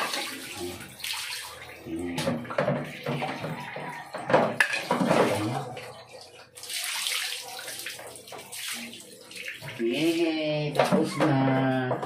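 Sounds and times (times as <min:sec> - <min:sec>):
water pouring and splashing: 0:00.0 - 0:11.6.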